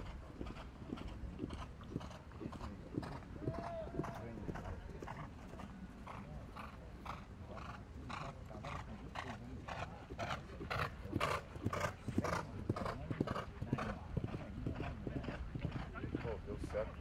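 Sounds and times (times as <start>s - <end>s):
horses cantering on grass: 0.0s - 17.0s.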